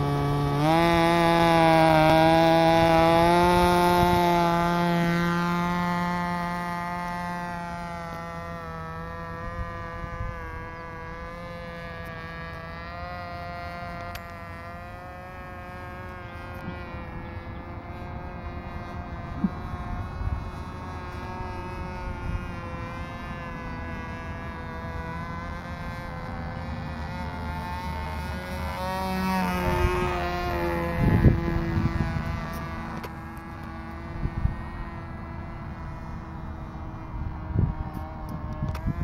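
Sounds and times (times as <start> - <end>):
model airplane engine buzzing: 0.0 - 39.0.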